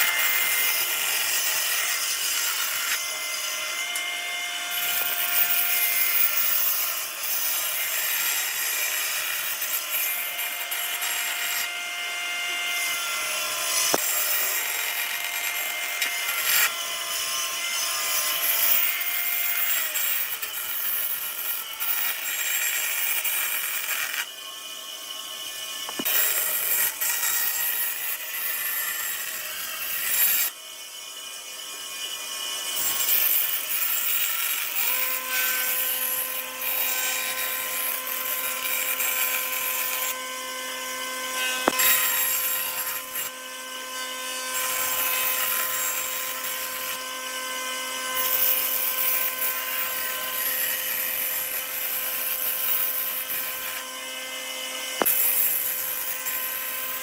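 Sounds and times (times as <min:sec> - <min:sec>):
power tools working wood: 0:00.0 - 0:57.0.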